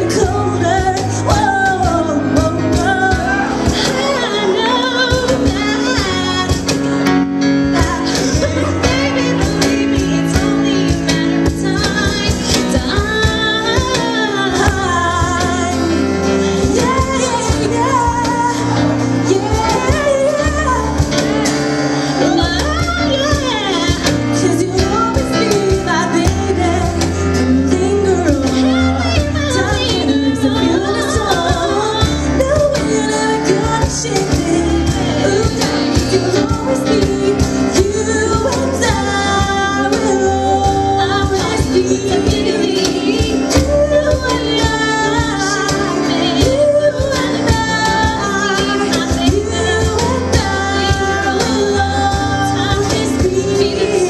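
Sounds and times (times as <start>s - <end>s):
woman singing: 0.0s - 54.0s.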